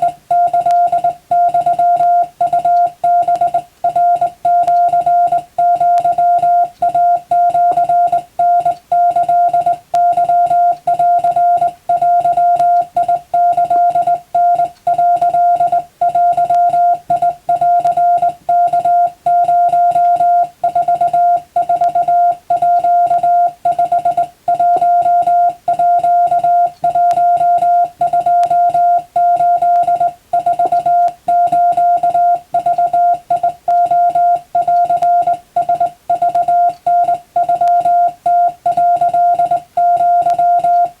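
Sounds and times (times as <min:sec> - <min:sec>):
morse code tone: 0:00.0 - 0:41.0.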